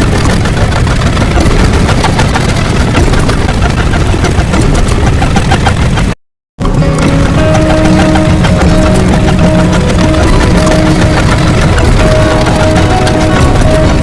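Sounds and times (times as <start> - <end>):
engine-like rumble with rapid clicking: 0.0 - 14.0.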